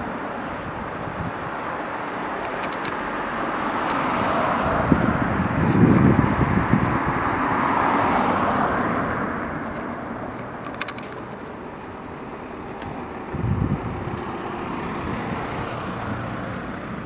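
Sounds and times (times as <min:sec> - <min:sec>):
vehicle passing: 0:03.0 - 0:17.0.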